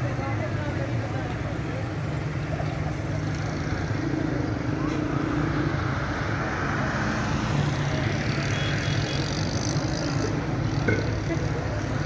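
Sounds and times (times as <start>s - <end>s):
road traffic engines humming: 0.0s - 12.0s.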